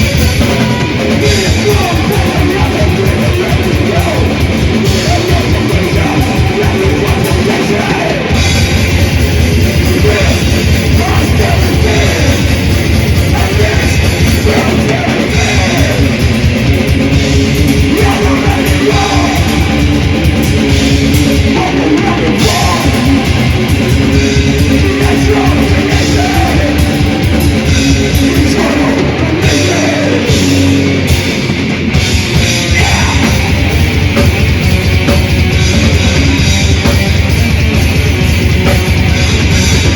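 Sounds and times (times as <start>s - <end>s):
fast drumming: 0.0s - 39.9s
metal band playing loudly: 0.0s - 39.9s.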